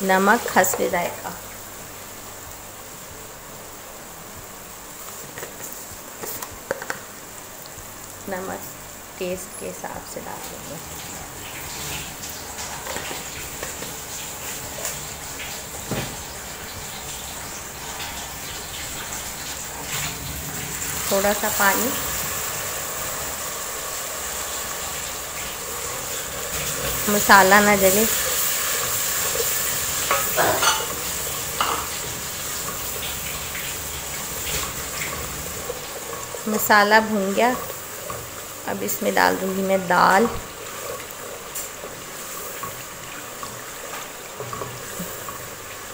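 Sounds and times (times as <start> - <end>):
masala sizzling in oil: 0.0 - 45.9.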